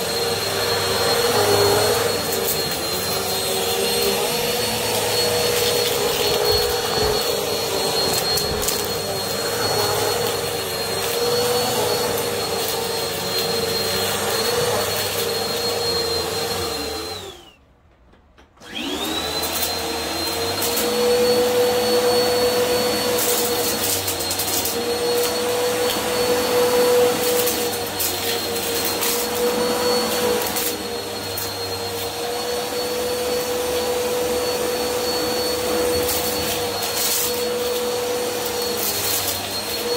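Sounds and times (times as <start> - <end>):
vacuum cleaner running on carpet: 0.0 - 17.6, 18.6 - 39.9.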